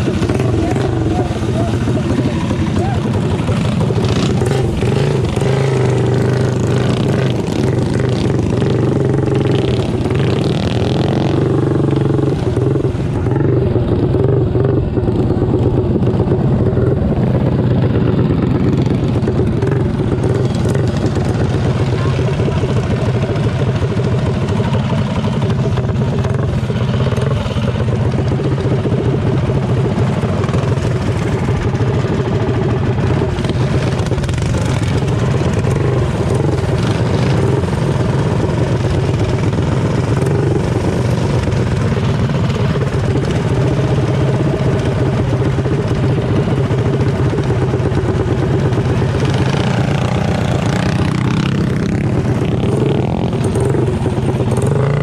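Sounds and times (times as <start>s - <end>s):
mini bike engines running: 0.0s - 55.0s.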